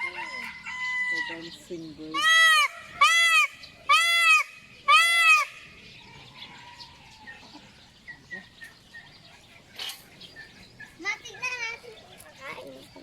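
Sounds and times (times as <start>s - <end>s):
peafowl nasal calls: 0.0s - 11.1s.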